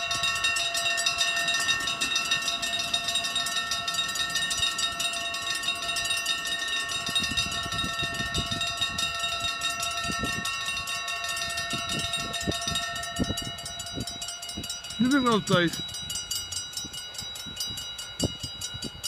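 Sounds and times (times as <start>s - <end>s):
level crossing warning bells ringing: 0.0s - 19.0s.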